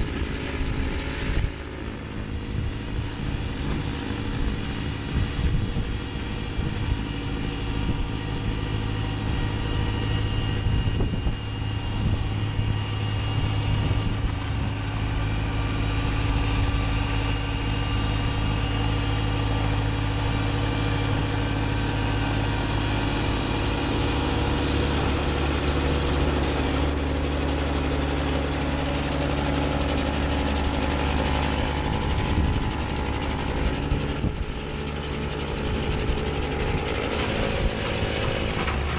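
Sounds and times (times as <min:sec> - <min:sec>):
high whine: 0:00.0 - 0:38.9
tractor diesel engine running: 0:00.0 - 0:38.9.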